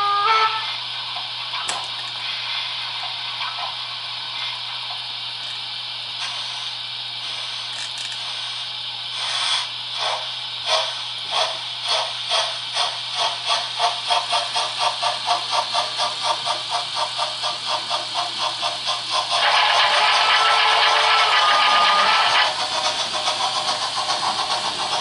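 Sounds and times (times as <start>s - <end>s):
steam hiss: 0.0s - 25.0s
steam locomotive exhaust chuffs: 0.0s - 25.0s.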